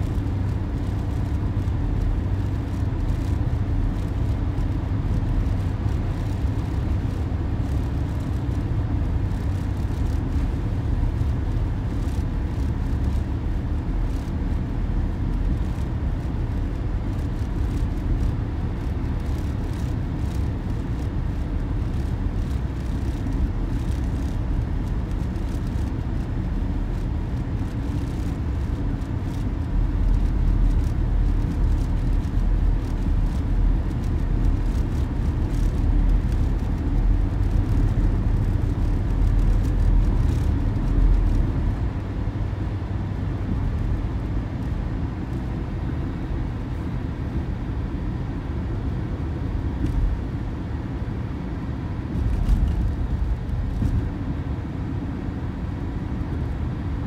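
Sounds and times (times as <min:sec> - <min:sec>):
tyre and engine rumble: 0:00.0 - 0:47.9, 0:48.5 - 0:55.0.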